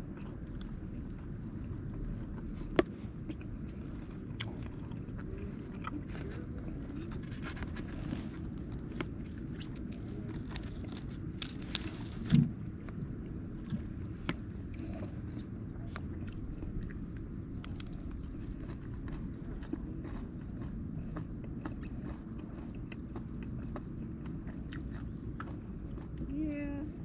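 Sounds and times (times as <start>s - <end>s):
person chewing: 0.0s - 26.4s
low outdoor rumble: 0.0s - 27.0s.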